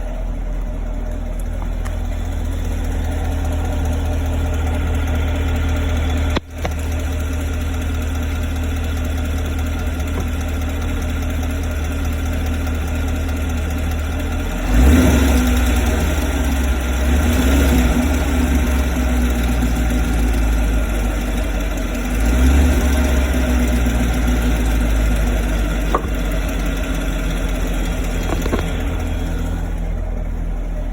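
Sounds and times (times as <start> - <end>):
car engine idling: 0.0 - 30.9
engine ticking: 0.0 - 30.9.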